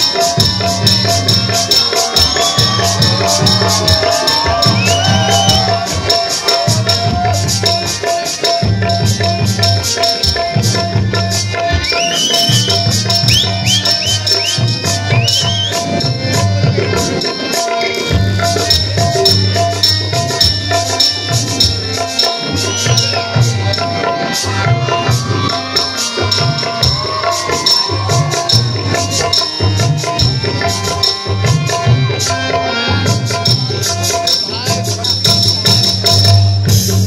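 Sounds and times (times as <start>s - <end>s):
rapid drum beats: 0.0s - 37.0s
rattling jingling percussion: 0.0s - 37.0s.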